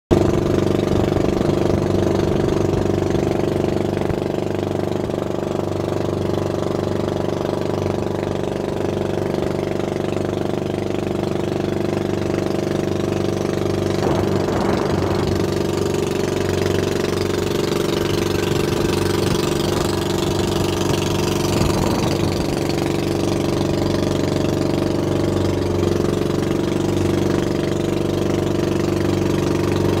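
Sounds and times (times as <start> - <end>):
boat motor droning: 0.1 - 30.0
water rushing along hull: 0.1 - 30.0
water splashes: 0.1 - 30.0.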